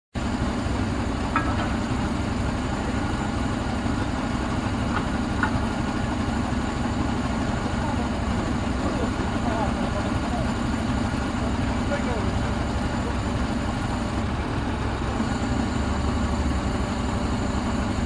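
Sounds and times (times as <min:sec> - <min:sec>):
crane engine rumbling: 0:00.2 - 0:18.0.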